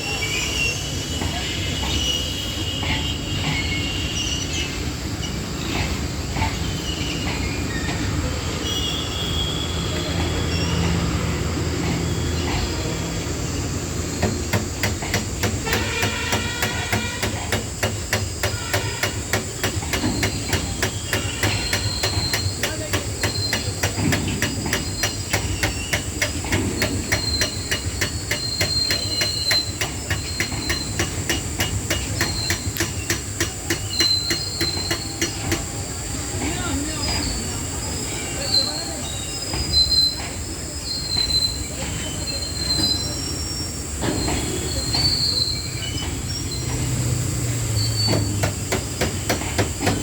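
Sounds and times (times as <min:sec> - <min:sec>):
high wheel squeals: 0:00.0 - 0:50.0
train wheels clattering over rail joints: 0:04.7 - 0:08.4, 0:10.0 - 0:37.8, 0:39.1 - 0:50.0.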